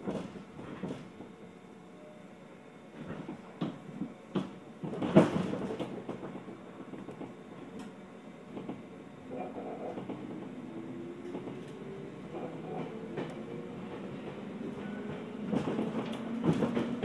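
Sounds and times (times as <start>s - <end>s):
clunks and knocks in train car: 0.0s - 1.4s, 3.0s - 17.0s.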